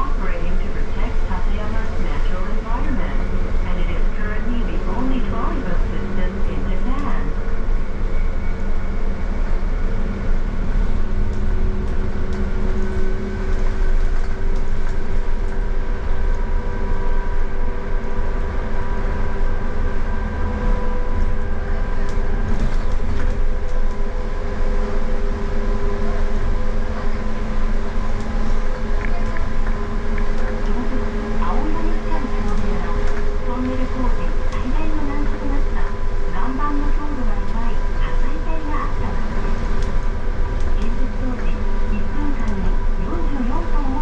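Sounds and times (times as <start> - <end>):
trolleybus ride rumble: 0.0 - 44.0.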